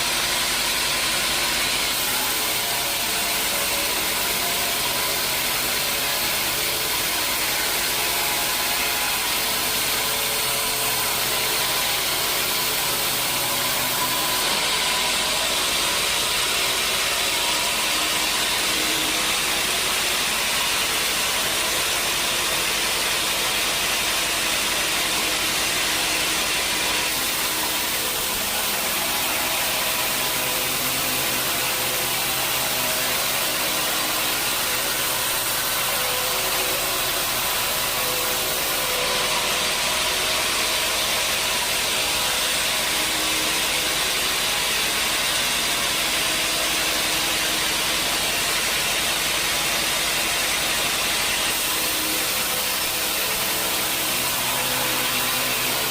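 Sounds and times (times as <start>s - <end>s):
sawmill machinery hissing and humming: 0.0s - 55.9s.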